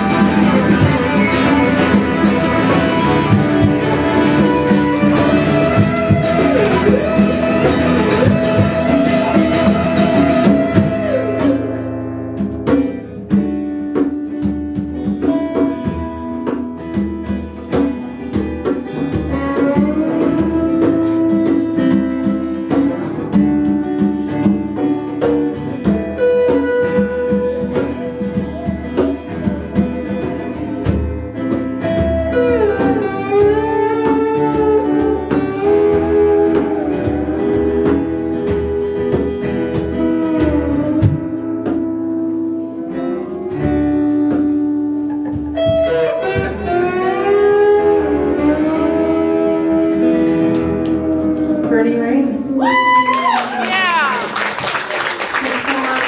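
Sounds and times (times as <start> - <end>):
lead guitar bending notes: 0.0 - 53.0
acoustic guitar strumming: 0.0 - 56.0.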